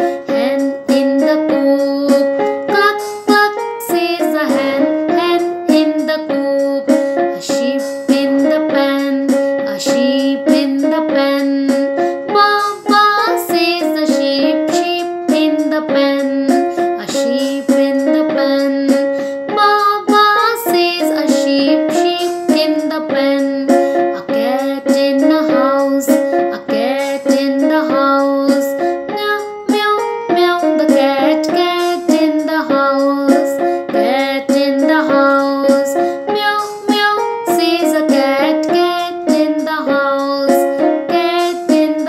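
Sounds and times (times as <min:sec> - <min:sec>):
instrumental backing track: 0:00.0 - 0:42.0
woman singing: 0:00.0 - 0:42.0.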